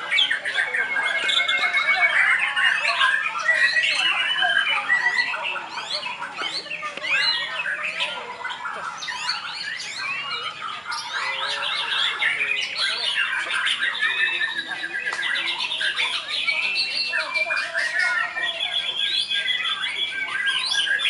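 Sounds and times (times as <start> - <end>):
many songbirds singing: 0.0 - 21.0.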